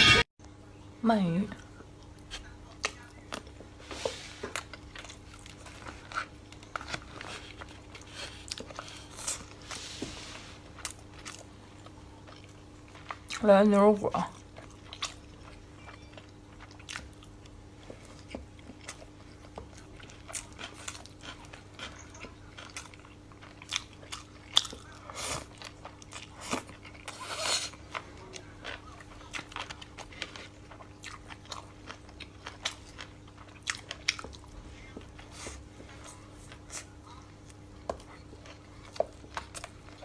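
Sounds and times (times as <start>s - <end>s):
close chewing and biting: 4.5s - 9.8s, 10.6s - 40.0s.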